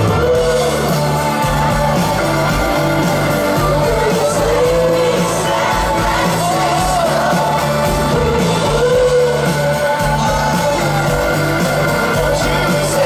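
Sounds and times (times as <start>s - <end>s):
live pop-rock band playing: 0.0s - 13.0s
person singing lead vocals: 0.0s - 13.0s.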